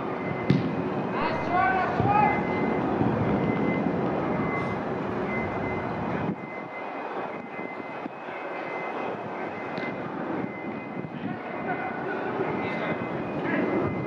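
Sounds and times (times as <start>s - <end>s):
distant engine rumble: 0.0s - 14.0s.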